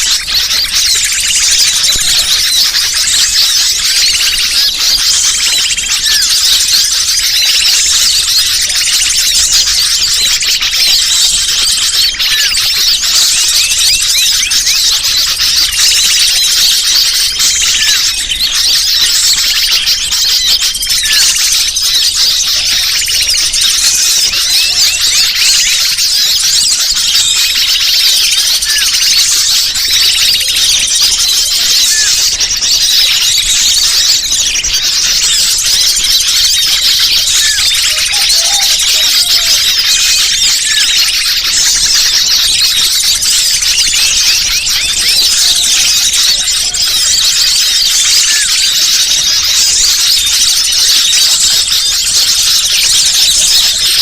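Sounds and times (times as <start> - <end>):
small birds chirping and squeaking: 0.0 - 54.0.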